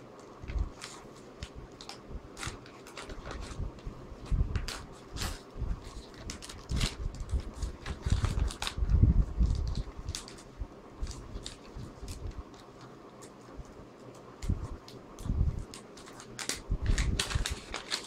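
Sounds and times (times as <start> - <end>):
packaging rustling and clicking: 0.2 - 13.4, 14.0 - 18.0.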